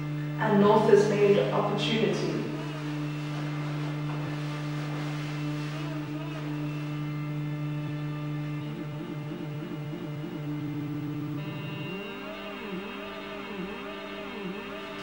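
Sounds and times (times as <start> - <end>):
low drone with overtones: 0.0 - 15.0.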